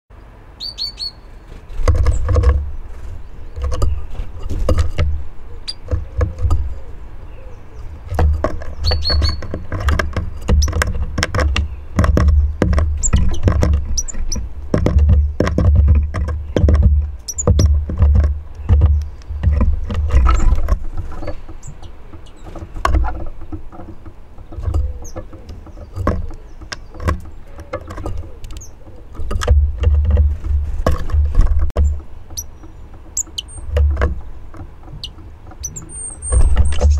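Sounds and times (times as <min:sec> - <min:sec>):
birds knocking on wooden feeder: 0:01.6 - 0:36.9.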